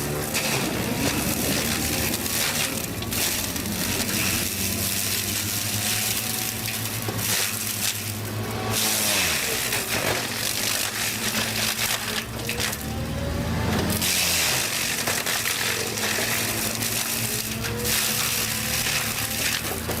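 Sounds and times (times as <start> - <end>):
diesel engine running under load: 0.0 - 20.0
wood cracking and crushing: 0.0 - 20.0.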